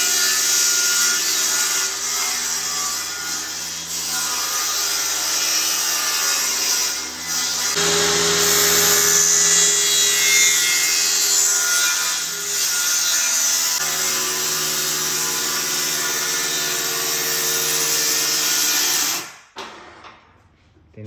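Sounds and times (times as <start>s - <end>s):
power saw cutting wood: 0.0s - 19.3s.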